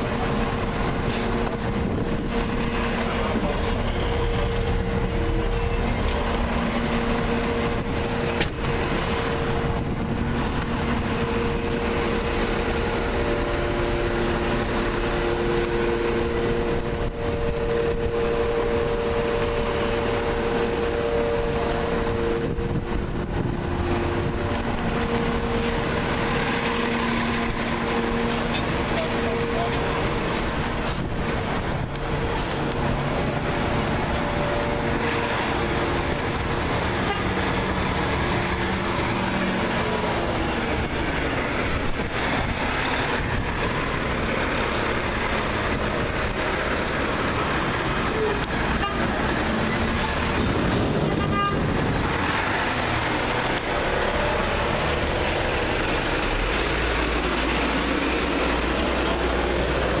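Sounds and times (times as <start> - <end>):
garbage truck engines running: 0.0 - 60.0
truck rolling past rumbling: 0.0 - 60.0.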